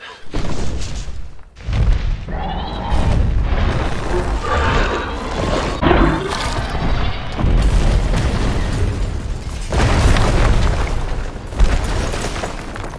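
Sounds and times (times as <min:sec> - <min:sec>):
deep booming rumbles and crashes: 0:00.3 - 0:12.9.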